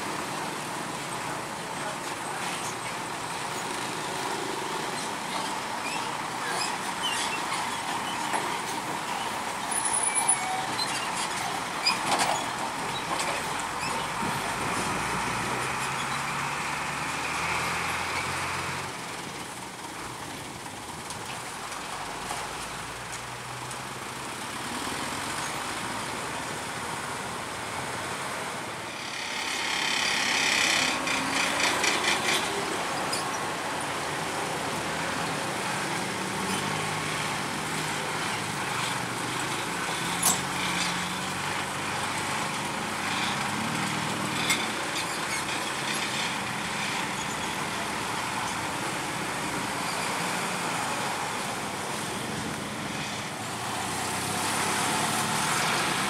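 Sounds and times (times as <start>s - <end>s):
diesel truck engines at low speed: 0.0s - 56.0s.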